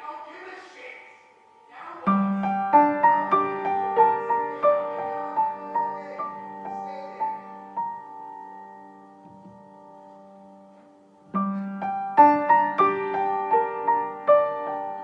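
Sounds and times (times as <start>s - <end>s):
slow piano melody: 1.4s - 15.0s.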